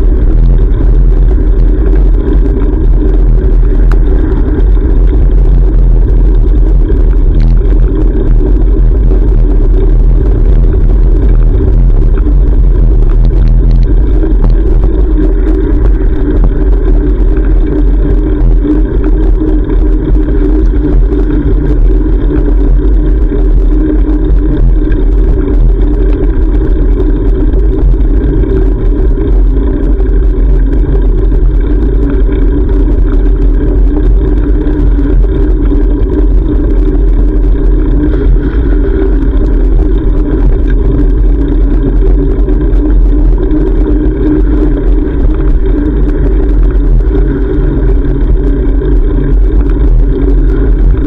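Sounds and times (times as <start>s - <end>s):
low rumble on moving bicycle: 0.0s - 51.0s.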